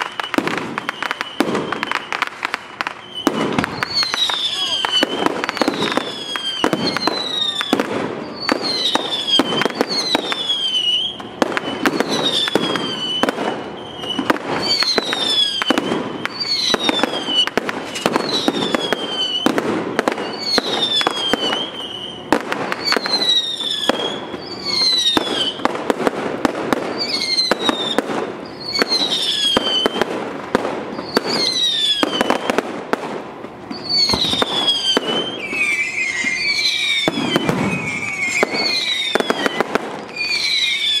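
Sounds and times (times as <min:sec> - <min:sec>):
high whistle falling in pitch: 0:00.0 - 0:25.7, 0:30.9 - 0:32.6, 0:33.7 - 0:41.0
fireworks bangs and crackling: 0:00.0 - 0:41.0.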